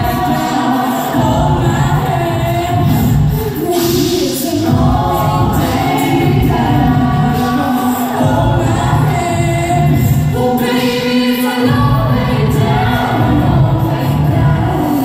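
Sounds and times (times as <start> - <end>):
vocal group singing in harmony: 0.0 - 15.0.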